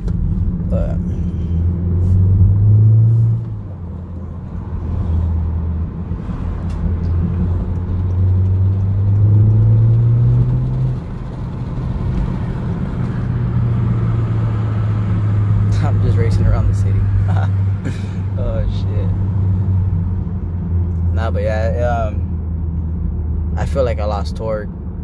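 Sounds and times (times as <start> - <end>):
car exhaust accelerating: 0.0 - 23.9.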